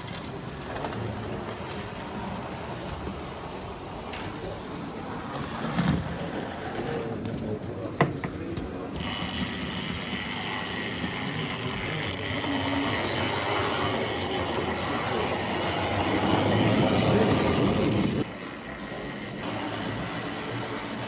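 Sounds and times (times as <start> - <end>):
model locomotive motor whine: 0.0 - 7.2, 8.9 - 21.0.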